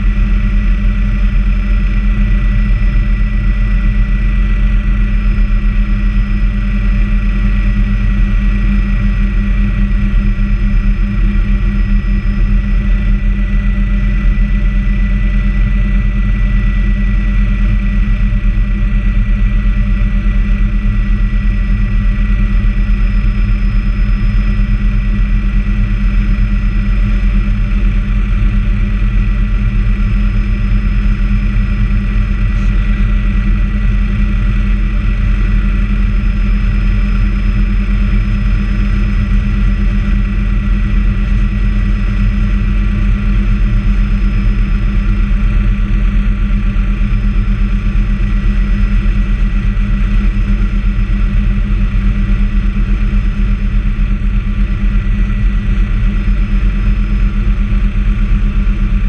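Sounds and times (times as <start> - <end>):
helicopter rotor drone: 0.0 - 59.0
high engine whine: 0.0 - 59.0.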